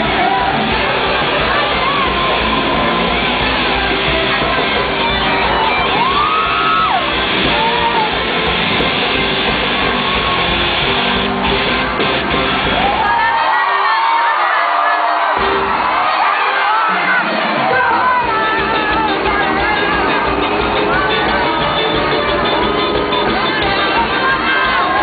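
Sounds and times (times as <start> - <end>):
crowd shouting and whooping: 0.0 - 25.0
loud live band music: 0.0 - 25.0.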